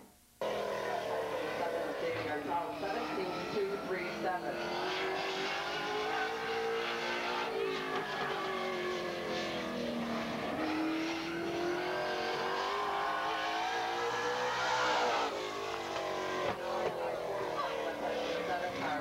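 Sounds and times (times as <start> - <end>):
race car engine accelerating: 0.4 - 19.0.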